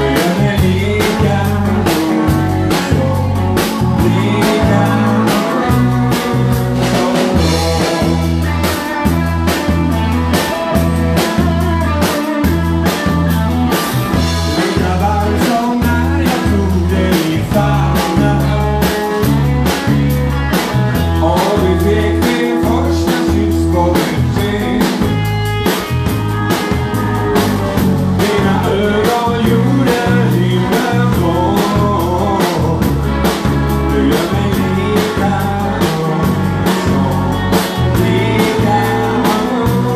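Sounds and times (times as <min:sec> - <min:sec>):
person singing: 0:00.0 - 0:09.2, 0:14.1 - 0:25.3, 0:28.1 - 0:39.9
drum kit: 0:00.0 - 0:39.9.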